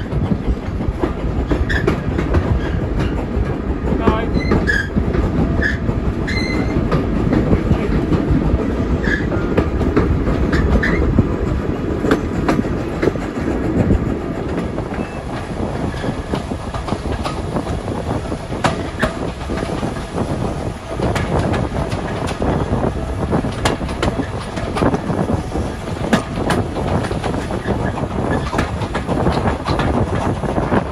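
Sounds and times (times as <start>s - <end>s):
train coaches rumbling on track: 0.0s - 30.9s
wheels clicking on rails: 0.0s - 30.9s.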